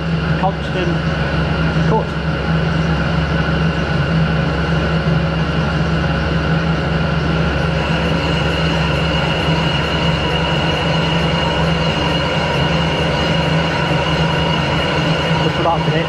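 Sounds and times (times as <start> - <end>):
lathe humming with whine: 0.0 - 16.0.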